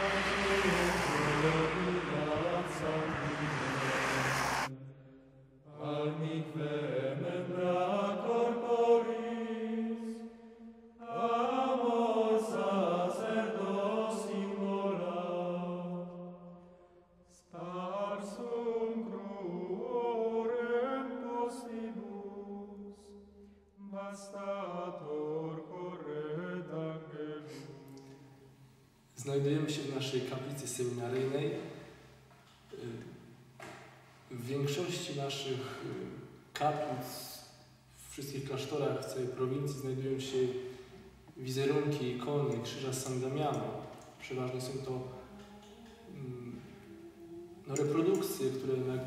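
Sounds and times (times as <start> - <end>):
slow sung chant: 0.0 - 49.0.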